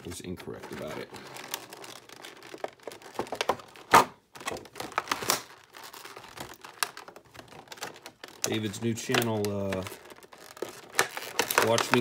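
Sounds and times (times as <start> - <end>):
plastic packaging crinkling: 0.0 - 12.0
sharp plastic crack: 0.0 - 12.0.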